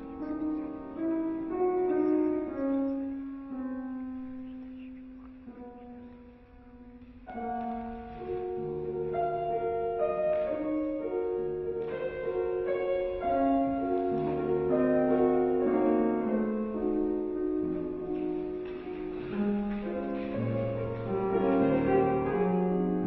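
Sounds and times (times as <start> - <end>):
slow classical piano melody: 0.0 - 23.0.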